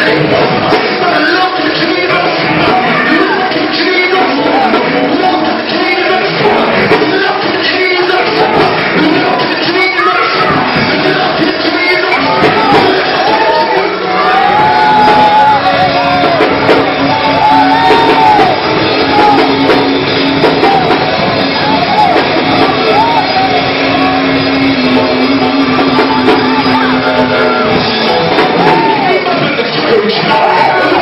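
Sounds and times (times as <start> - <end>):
live church music: 0.0 - 31.0
voices shouting and singing: 0.0 - 31.0.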